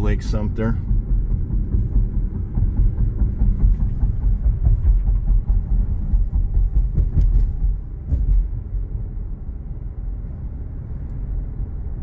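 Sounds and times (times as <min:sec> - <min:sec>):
car road and tyre noise: 0:00.0 - 0:12.0.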